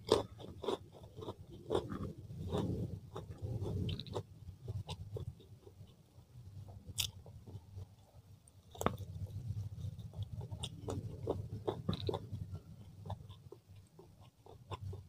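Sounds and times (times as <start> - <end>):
person chewing chicken: 0.0 - 6.0, 8.7 - 15.0
low steady hum: 0.0 - 15.0.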